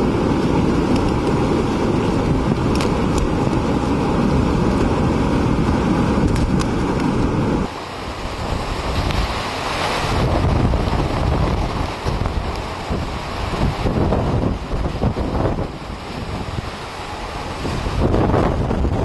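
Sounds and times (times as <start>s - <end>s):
driving rain: 0.0s - 19.0s
roaring wind on microphone: 0.0s - 19.0s.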